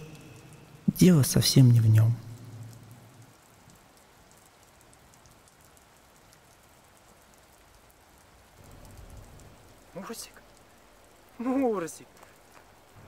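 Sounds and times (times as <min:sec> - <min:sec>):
light rain hiss: 0:00.0 - 0:13.0.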